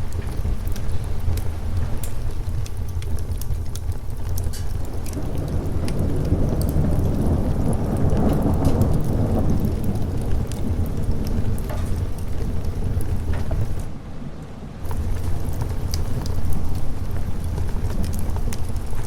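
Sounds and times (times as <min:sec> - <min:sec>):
sharp crackles: 0:00.0 - 0:13.9, 0:14.8 - 0:19.0
steady rain: 0:00.0 - 0:19.0
thunder rumbling: 0:00.0 - 0:19.0.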